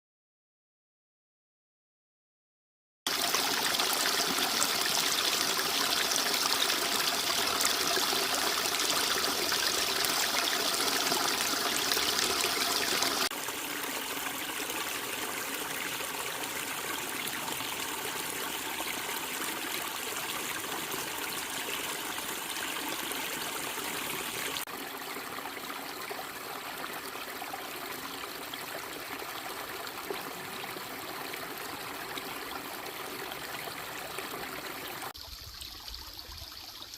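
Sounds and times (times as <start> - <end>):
stream flowing: 3.1 - 36.9.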